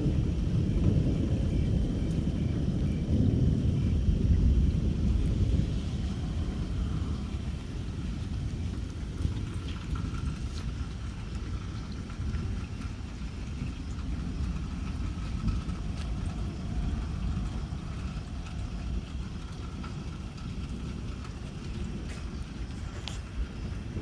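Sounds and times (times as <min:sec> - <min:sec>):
low rumble of thunder: 0:00.0 - 0:24.0
rain falling: 0:00.0 - 0:24.0
water drip ticks: 0:00.0 - 0:24.0.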